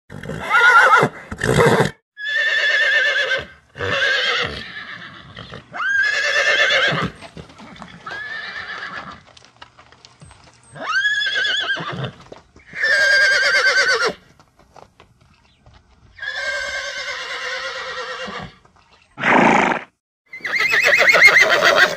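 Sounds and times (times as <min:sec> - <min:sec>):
horse whinnying: 0:00.1 - 0:09.2, 0:10.8 - 0:14.2, 0:16.2 - 0:18.6, 0:19.2 - 0:21.9.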